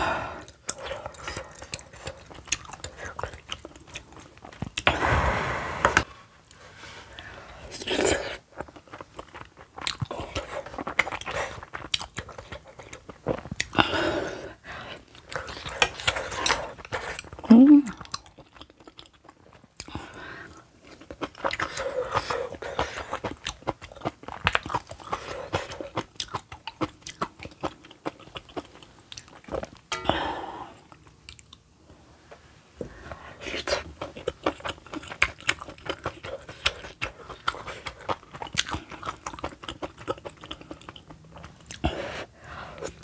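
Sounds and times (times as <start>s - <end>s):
person chewing wetly: 0.4s - 4.9s, 7.6s - 13.9s, 14.5s - 30.0s, 30.7s - 31.7s, 33.4s - 43.0s.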